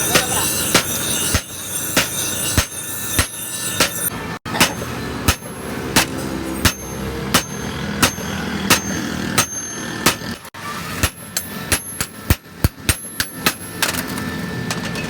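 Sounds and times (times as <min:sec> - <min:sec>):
hammer striking metal anvil: 0:00.0 - 0:14.0.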